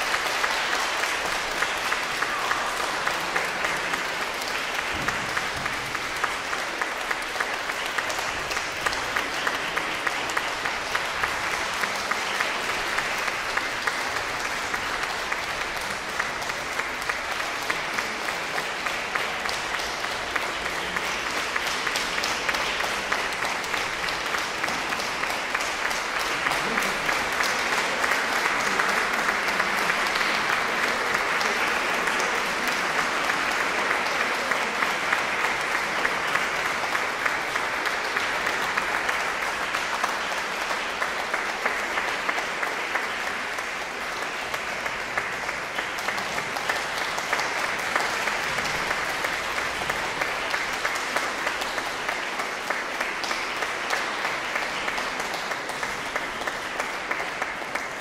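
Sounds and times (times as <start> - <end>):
audience applauding: 0.0 - 58.0.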